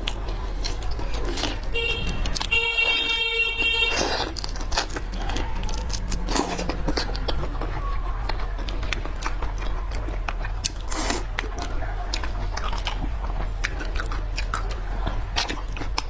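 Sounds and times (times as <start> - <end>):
chewing noises: 0.0 - 16.0
steady low hum: 0.0 - 16.0.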